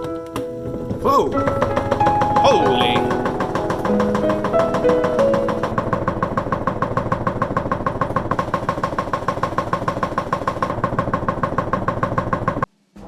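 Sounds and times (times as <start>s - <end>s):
spin dryer rattling: 0.5s - 12.7s.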